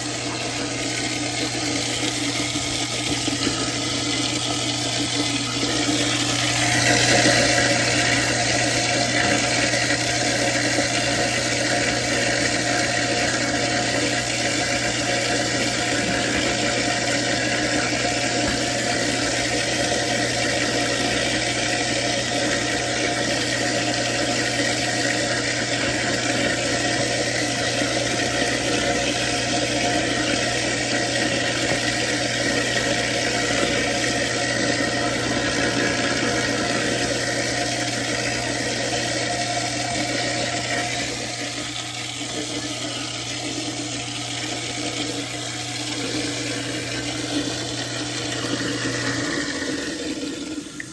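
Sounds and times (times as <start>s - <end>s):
garbage disposal running: 0.0s - 50.9s.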